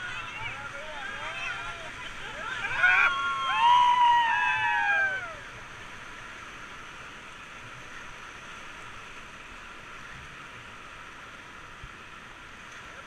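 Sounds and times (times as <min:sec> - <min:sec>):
fast-flowing river water: 0:00.0 - 0:13.0.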